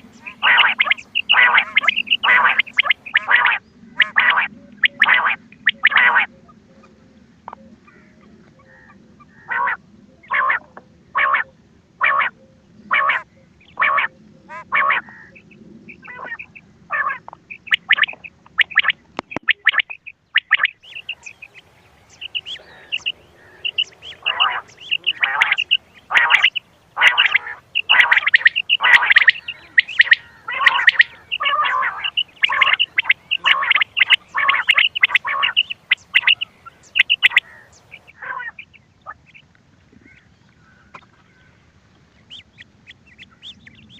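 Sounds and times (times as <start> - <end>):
quail calls: 0.0 - 41.3, 42.3 - 43.9.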